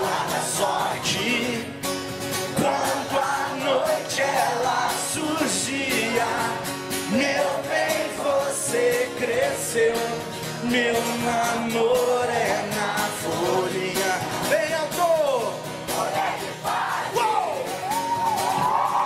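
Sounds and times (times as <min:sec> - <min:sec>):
person singing: 0:00.0 - 0:01.7, 0:02.6 - 0:17.7.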